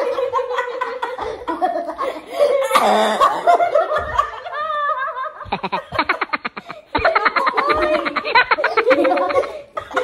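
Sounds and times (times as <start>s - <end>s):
group of people laughing: 0.0s - 10.0s.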